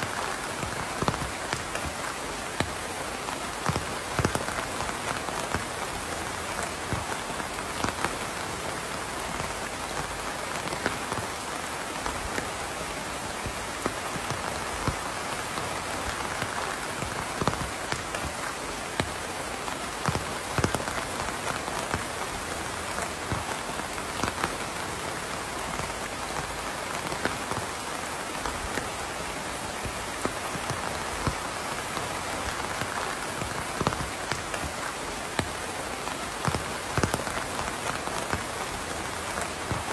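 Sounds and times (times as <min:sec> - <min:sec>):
raindrops ticking and tapping: 0:00.0 - 0:39.9
steady rain hiss: 0:00.0 - 0:39.9.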